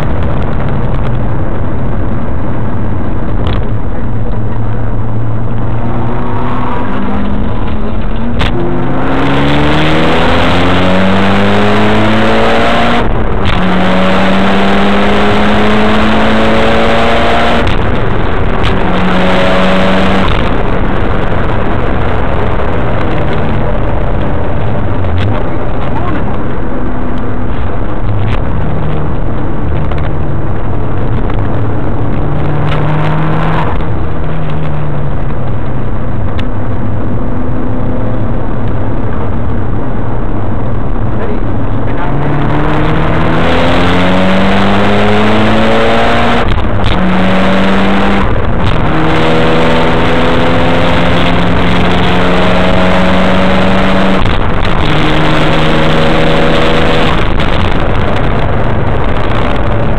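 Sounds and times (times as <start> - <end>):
car engine accelerating hard: 0.0 - 59.9
road and wind noise: 0.0 - 59.9.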